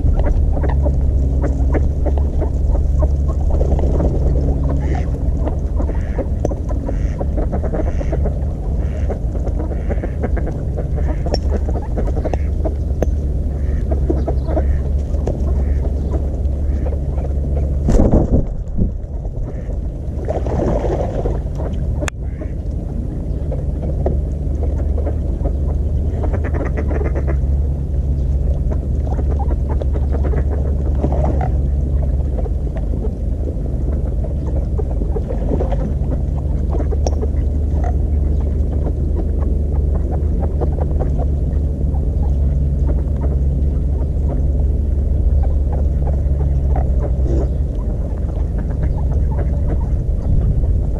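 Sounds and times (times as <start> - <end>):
ducks quacking: 0.0 - 50.9
steady low rumble: 0.0 - 50.9.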